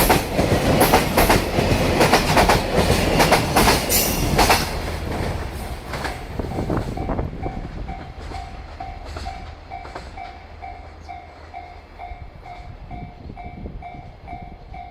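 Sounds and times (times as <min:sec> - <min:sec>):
train wagons clacking over rail joints: 0:00.0 - 0:12.7.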